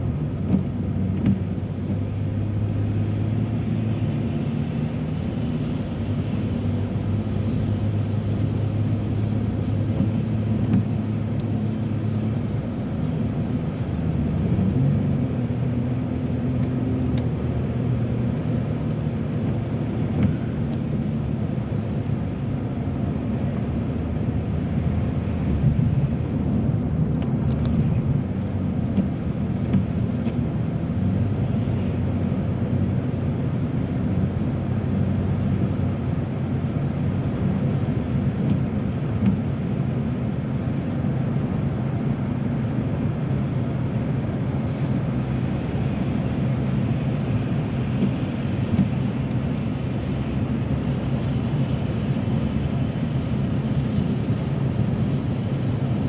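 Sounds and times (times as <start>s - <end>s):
car engine hum: 0.0s - 56.0s
tyre and road noise: 0.0s - 56.0s.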